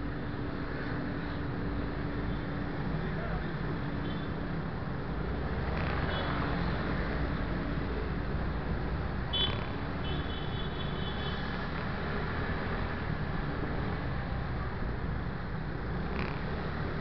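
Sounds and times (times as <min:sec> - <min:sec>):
road and wind rumble: 0:00.0 - 0:17.0
scooter traffic: 0:00.0 - 0:17.0.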